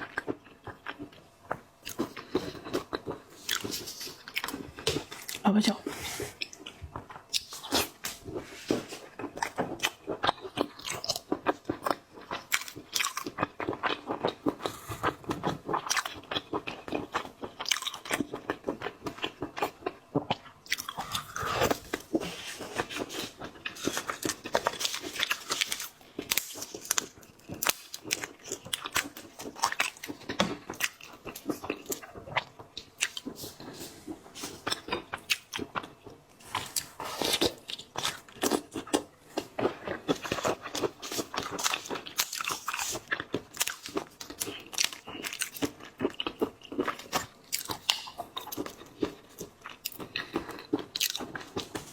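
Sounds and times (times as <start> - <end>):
wet chewing: 6.3 - 51.9.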